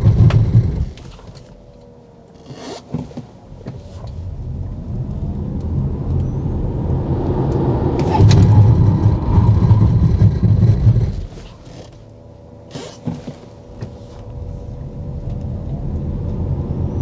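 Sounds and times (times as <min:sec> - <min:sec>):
car road rumble and tyre noise: 0:00.0 - 0:17.0
steady whine: 0:00.0 - 0:17.0.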